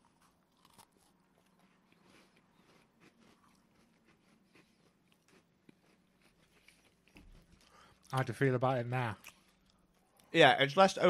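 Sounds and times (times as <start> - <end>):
chewing crunchy biscuit: 0.0 - 8.4, 9.1 - 10.3.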